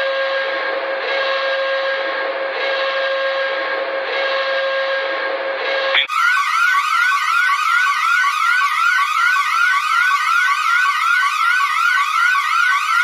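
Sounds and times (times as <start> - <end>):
electronic alarm siren sweeping: 0.0 - 13.0.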